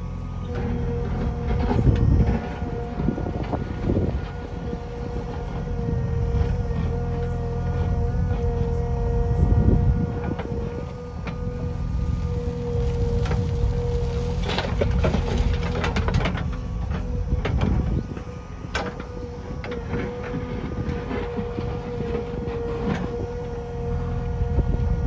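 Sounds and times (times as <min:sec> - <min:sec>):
diesel engine whining: 0:00.0 - 0:25.0.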